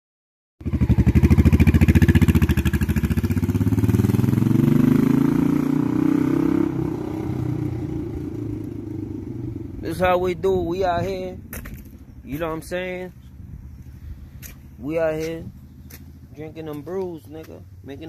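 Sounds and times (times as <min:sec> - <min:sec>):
motorcycle engine revving: 0:00.6 - 0:18.0.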